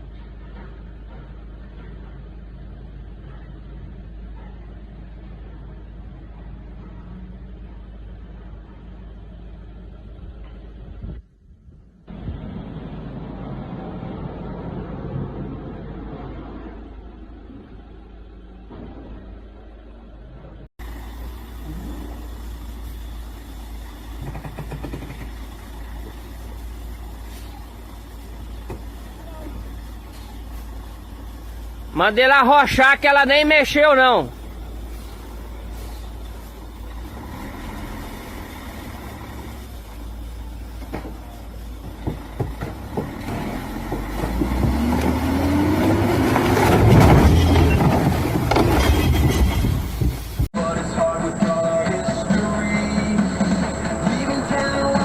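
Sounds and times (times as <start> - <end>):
heavy vehicle engine rumbling: 0.0 - 55.0.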